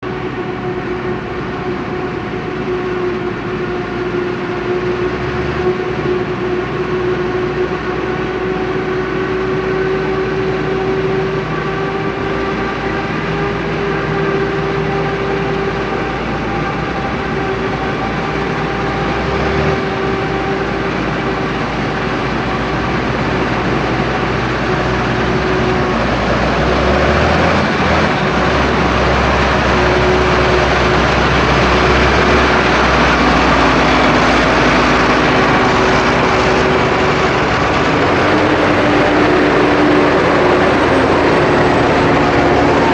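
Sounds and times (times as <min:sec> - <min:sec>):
harvesting machinery running: 0:00.0 - 0:42.9
high machine whine: 0:00.0 - 0:42.9
low engine hum: 0:00.0 - 0:42.9.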